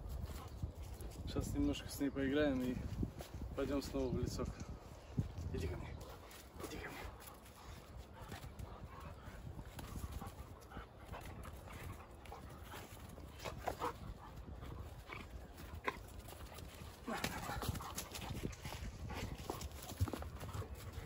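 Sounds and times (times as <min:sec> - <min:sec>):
movement noise: 0:00.0 - 0:21.0.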